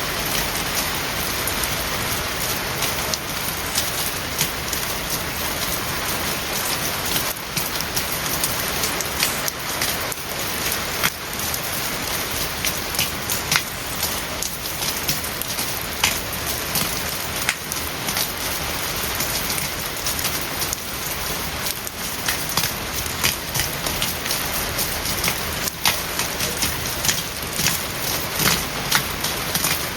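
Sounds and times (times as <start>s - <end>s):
heavy rain on hard surface: 0.0s - 29.9s.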